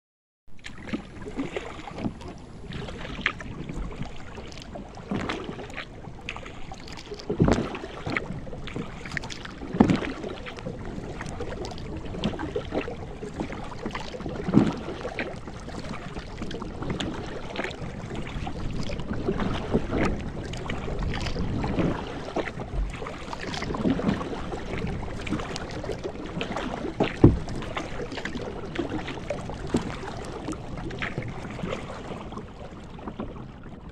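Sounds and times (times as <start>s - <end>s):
paddle splashes: 0.6s - 33.9s
water slapping against hull: 0.6s - 33.9s
wind and water rushing: 0.6s - 33.9s.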